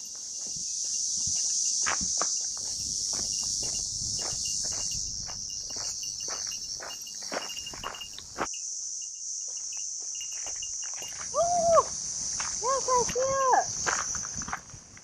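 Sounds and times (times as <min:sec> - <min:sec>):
footsteps on forest trail: 0:00.0 - 0:08.5, 0:09.4 - 0:15.0
cicadas buzzing: 0:00.0 - 0:15.0.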